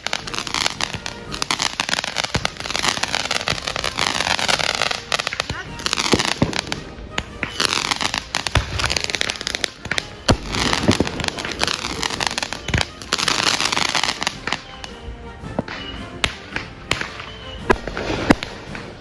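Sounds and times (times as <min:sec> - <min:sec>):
fireworks crackling: 0:00.0 - 0:19.0
fireworks sharp bangs: 0:00.0 - 0:19.0.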